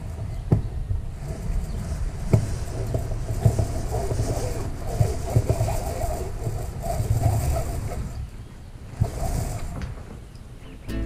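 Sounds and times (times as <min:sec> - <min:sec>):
wind rumbling on microphone: 0:00.0 - 0:10.9.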